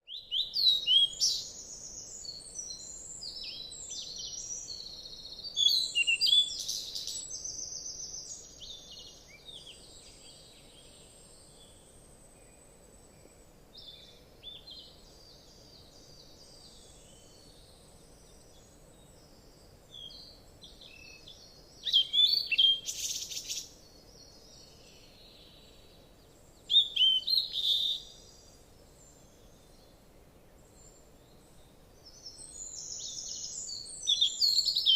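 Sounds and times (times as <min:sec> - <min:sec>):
small birds chirping and trilling: 0:00.0 - 0:30.0, 0:30.6 - 0:34.9
faint steady hiss: 0:00.0 - 0:34.9.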